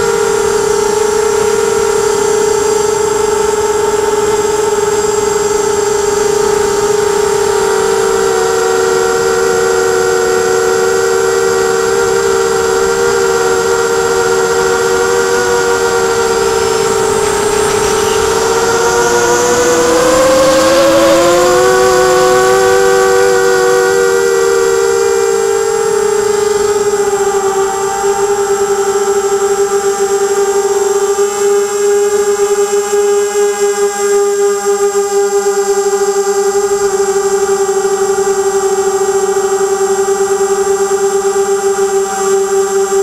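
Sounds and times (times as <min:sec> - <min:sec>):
quadcopter propellers whining: 0:00.0 - 0:43.0.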